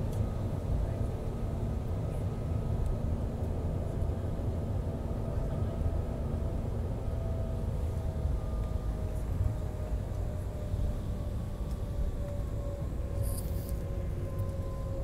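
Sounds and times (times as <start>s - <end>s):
faint jet engine idle whine: 0.0s - 15.0s.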